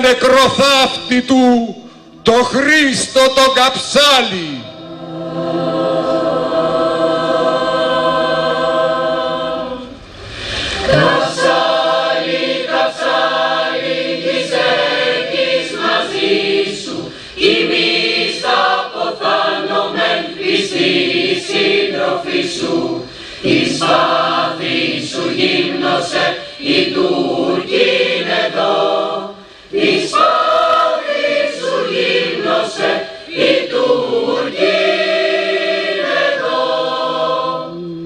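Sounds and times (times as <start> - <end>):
choir singing: 4.2 - 38.0.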